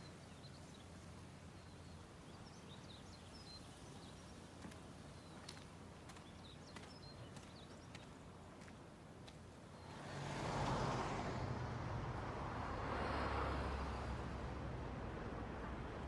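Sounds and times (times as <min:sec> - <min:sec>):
car traffic road noise: 0:00.0 - 0:16.0
low engine hum: 0:00.0 - 0:16.0.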